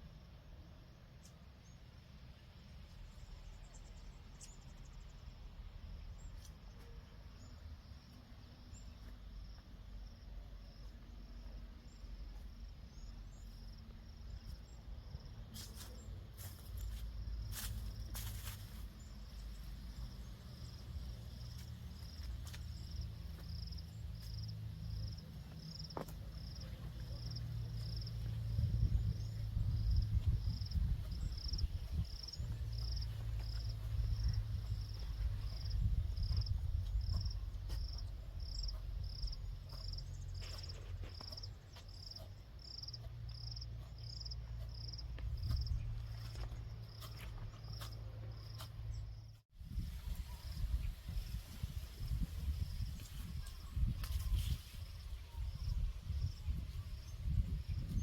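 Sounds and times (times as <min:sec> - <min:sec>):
insect chirping: 0:07.4 - 0:58.0.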